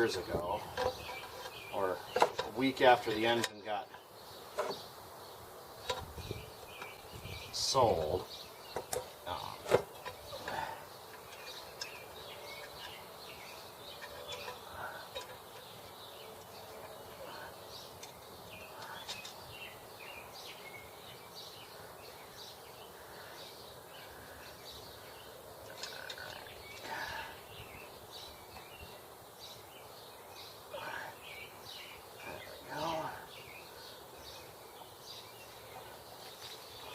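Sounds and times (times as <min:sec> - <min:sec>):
birds chirping: 0:00.0 - 0:36.9
faint steady hiss: 0:00.0 - 0:36.9.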